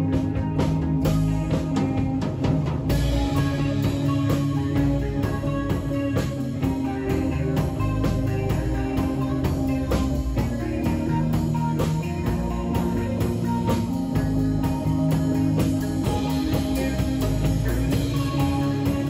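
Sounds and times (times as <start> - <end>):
bass guitar: 0.0 - 19.0
drum kit beat: 0.0 - 19.0
electric guitar: 0.0 - 19.0.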